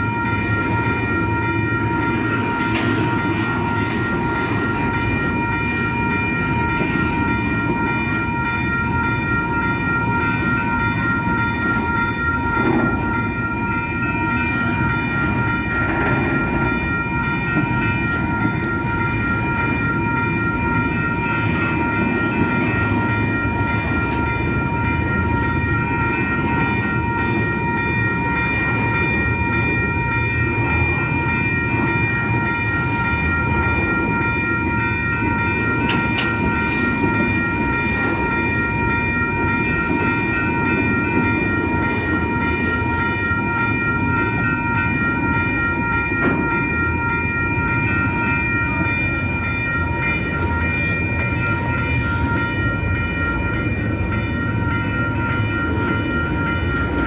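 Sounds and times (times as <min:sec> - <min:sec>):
high ringing tones: 0:00.0 - 0:57.0
train wheels rumbling on rails: 0:00.0 - 0:57.0.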